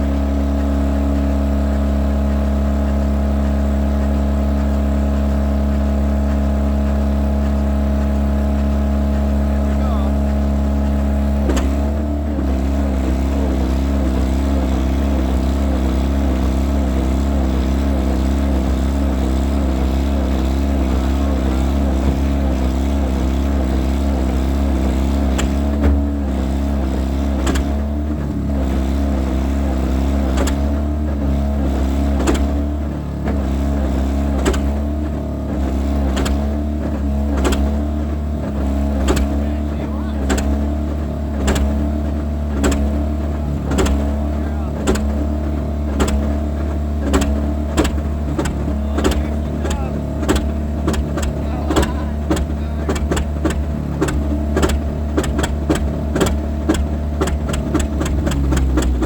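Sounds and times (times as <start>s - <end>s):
sharp engine knocks: 0.0s - 59.0s
tractor engine running: 0.0s - 59.0s.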